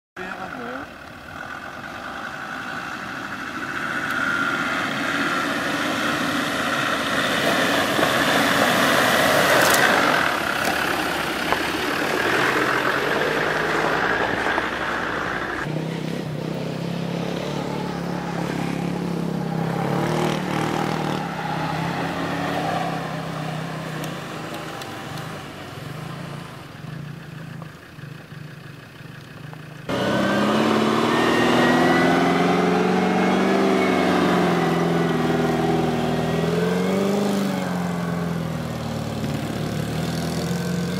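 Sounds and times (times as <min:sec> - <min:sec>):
off-road vehicle engine revving: 0:00.2 - 0:28.0, 0:29.8 - 0:40.9.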